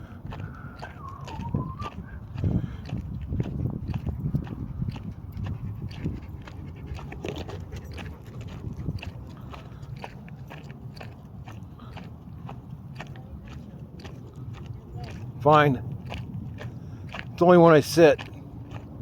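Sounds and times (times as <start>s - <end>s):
footsteps crunching on a trail: 0.0s - 19.0s.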